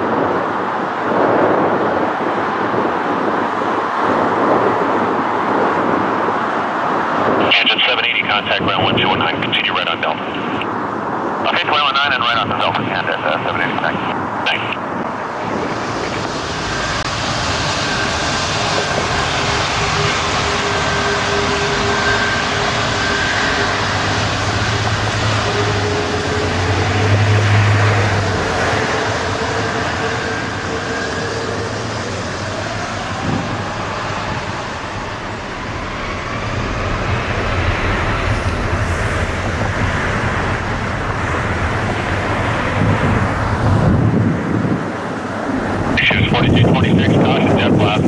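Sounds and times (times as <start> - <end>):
jet engines whining: 0.0 - 48.0.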